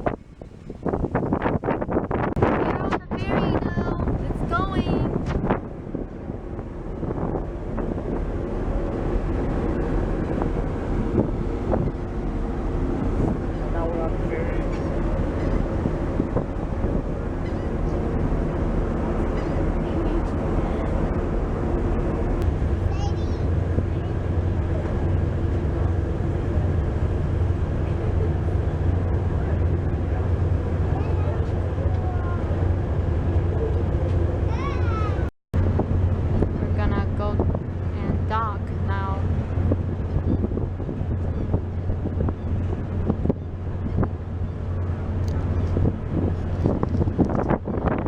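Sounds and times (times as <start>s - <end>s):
ferry engine rumble: 0.0s - 48.0s
wind buffeting microphone: 0.0s - 48.0s.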